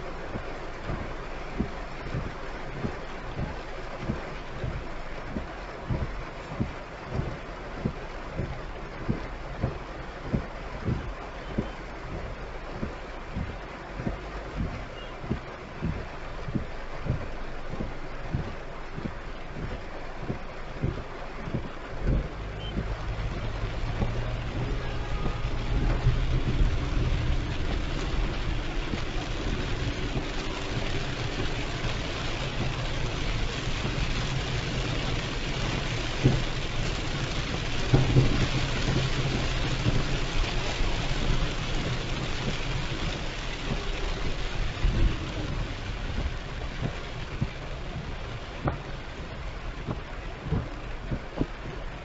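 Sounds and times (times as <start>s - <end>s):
car engine hum: 0.0s - 52.0s
heavy rain on a car: 0.0s - 52.0s
tyres on wet road: 0.0s - 52.0s.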